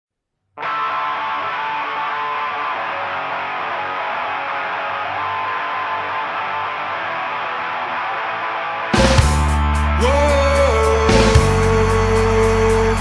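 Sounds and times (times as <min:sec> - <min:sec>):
electric guitar strumming chords: 0:00.6 - 0:13.0.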